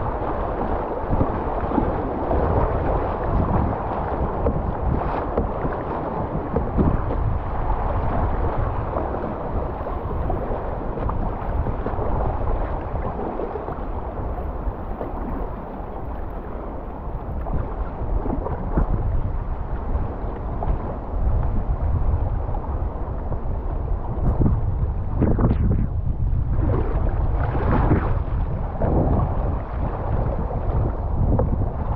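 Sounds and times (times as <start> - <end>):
paddle splashing: 0.0 - 25.6, 26.4 - 31.6
wind buffeting microphone: 0.0 - 31.9.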